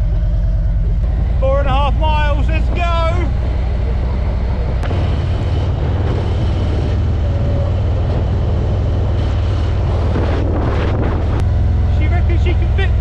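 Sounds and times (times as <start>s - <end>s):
motorcycle engine rumbling: 0.0s - 13.0s
wind and road noise: 0.0s - 13.0s.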